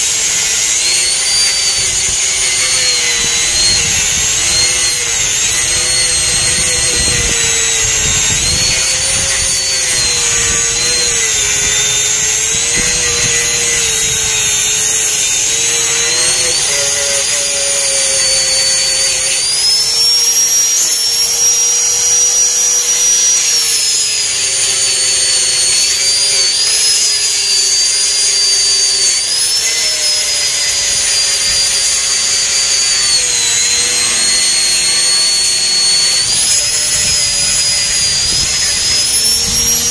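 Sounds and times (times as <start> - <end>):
angle grinder cutting cement: 0.0 - 39.9.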